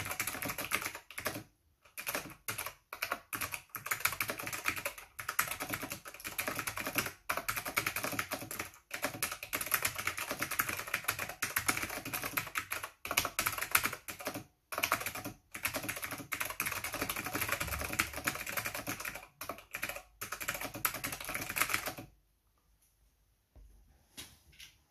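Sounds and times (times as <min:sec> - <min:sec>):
fast keyboard typing: 0:00.0 - 0:22.2.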